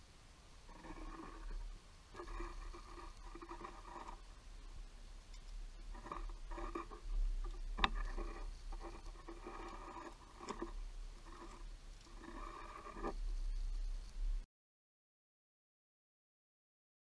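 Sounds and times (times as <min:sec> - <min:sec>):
squirrel scrabbling and rustling: 0:00.6 - 0:14.4.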